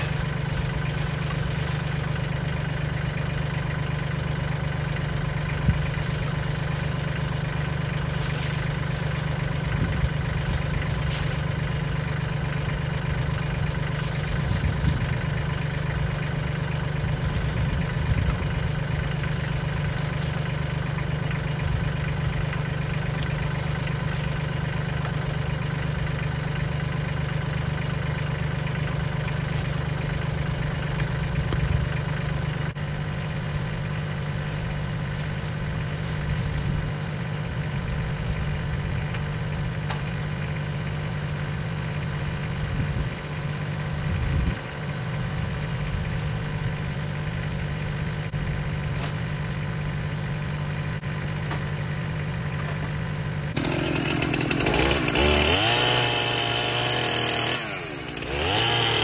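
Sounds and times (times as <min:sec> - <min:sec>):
branches rustling and knocking: 0:00.0 - 0:50.2, 0:51.0 - 0:59.0
tractor diesel engine idling: 0:00.0 - 0:59.0.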